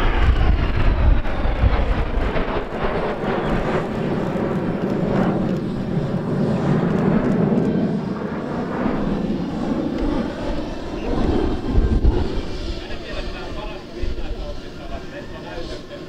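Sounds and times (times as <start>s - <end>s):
jet aircraft rushing overhead: 0.0s - 16.0s.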